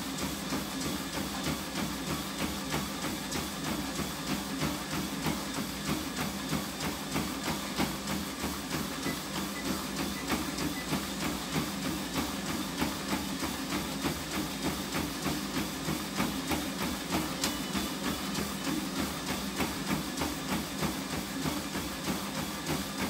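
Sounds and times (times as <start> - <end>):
running footfalls on treadmill: 0.0 - 23.0
treadmill motor hum: 0.0 - 23.0.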